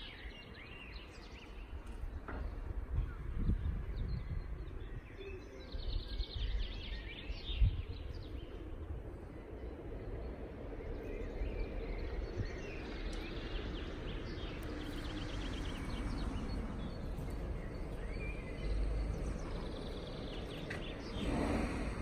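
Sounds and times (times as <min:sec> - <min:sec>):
small birds chirping: 0:00.0 - 0:22.0
steady low rumble: 0:00.5 - 0:22.0.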